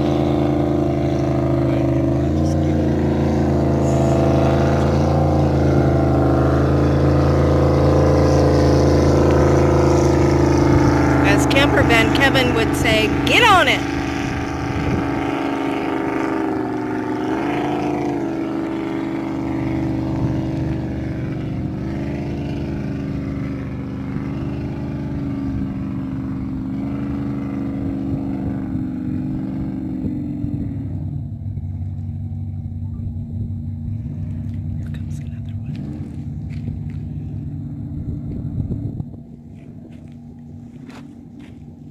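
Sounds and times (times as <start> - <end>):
jet boat engine droning: 0.0 - 41.9.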